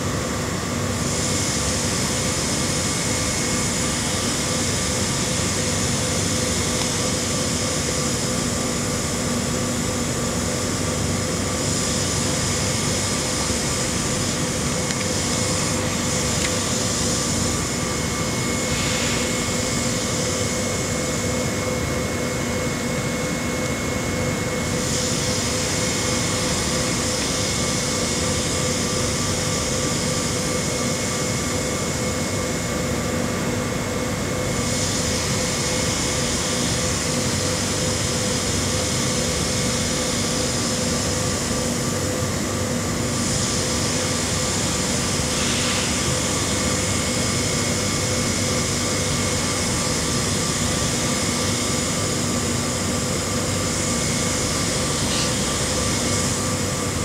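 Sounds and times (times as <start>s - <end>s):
machinery drone with whining tones: 0.0s - 57.0s.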